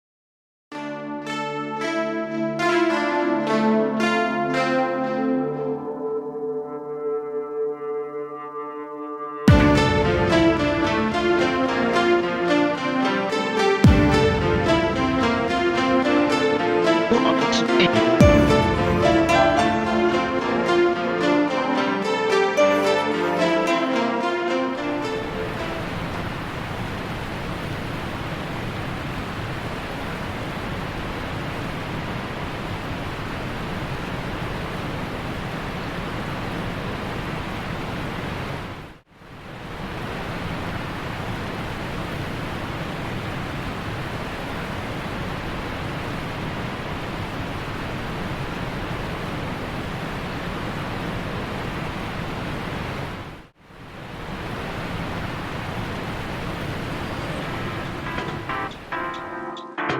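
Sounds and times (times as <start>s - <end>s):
steady rushing noise: 9.5s - 22.4s, 23.5s - 59.0s.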